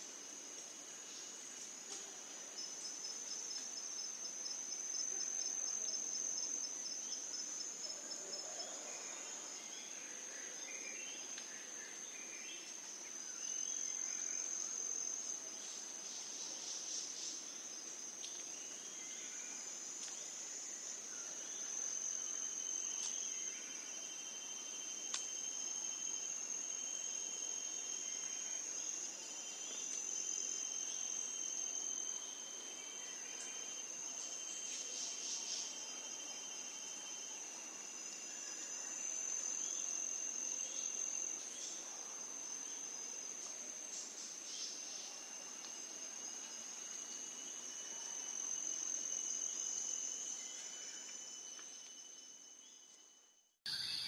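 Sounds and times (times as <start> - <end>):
insects chirring: 0.0 - 54.0
low insect trill: 0.0 - 54.0
short insect chirps: 2.5 - 54.0.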